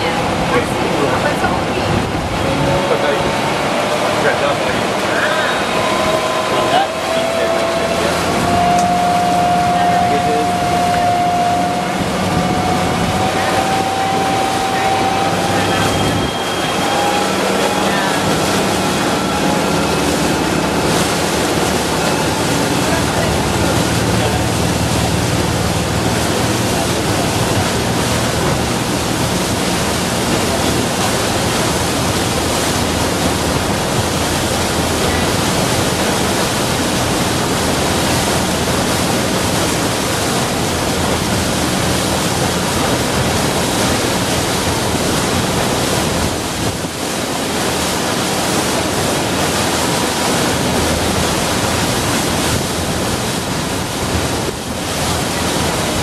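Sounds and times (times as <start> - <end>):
water streaming past boat: 0.0 - 56.0
wind on microphone: 0.0 - 56.0
low motor hum: 1.4 - 47.0.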